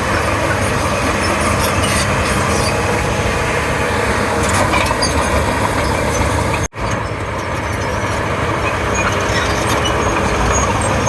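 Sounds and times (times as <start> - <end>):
bulldozer diesel engine under load: 0.0 - 11.0.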